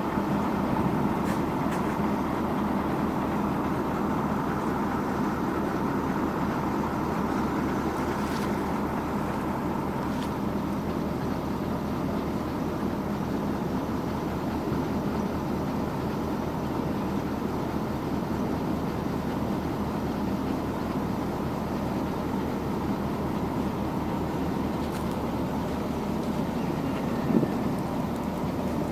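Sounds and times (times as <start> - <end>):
diesel machinery engine drone: 0.0 - 28.9.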